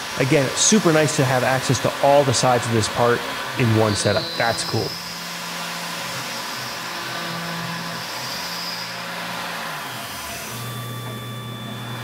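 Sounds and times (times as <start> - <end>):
milling machine cutting hiss: 0.0 - 12.0.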